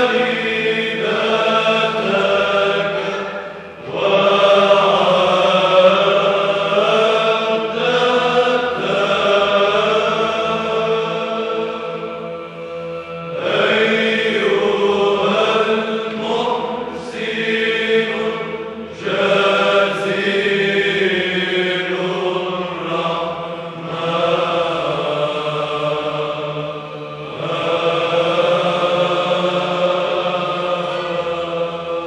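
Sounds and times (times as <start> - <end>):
choir chanting: 0.0 - 32.0
low held drone: 0.0 - 32.0.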